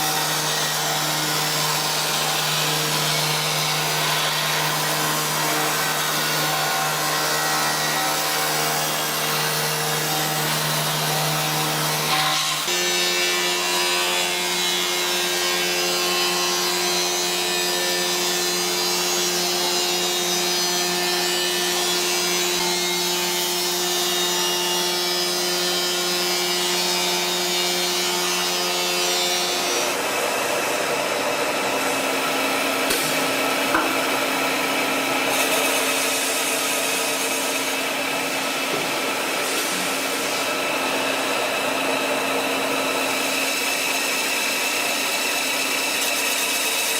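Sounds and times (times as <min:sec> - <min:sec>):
router cutting wood: 0:00.0 - 0:46.9
wood router spindle whine: 0:00.0 - 0:46.9.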